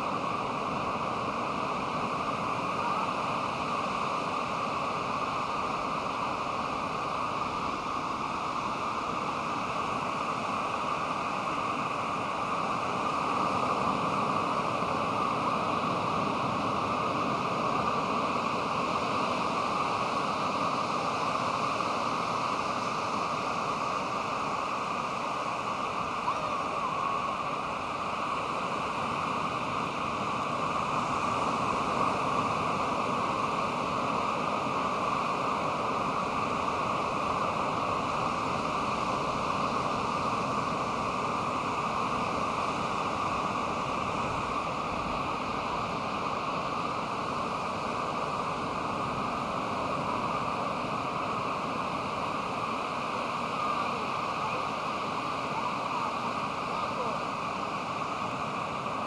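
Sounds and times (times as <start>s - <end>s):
waves washing on a beach: 0.0s - 59.0s.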